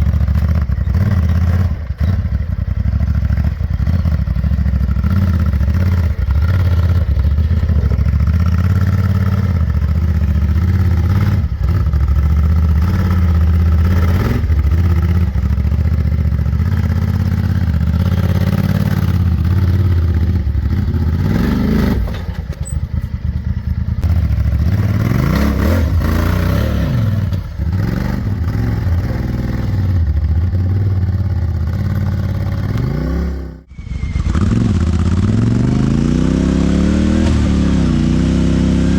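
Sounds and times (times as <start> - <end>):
engine running under load: 0.0 - 38.9.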